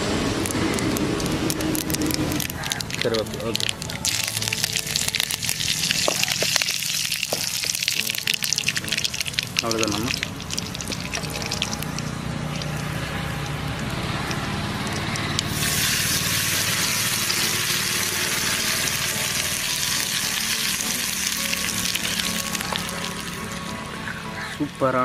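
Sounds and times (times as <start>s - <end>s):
spices frying in hot oil: 0.0s - 23.8s
loud hissing sizzle: 0.0s - 24.0s.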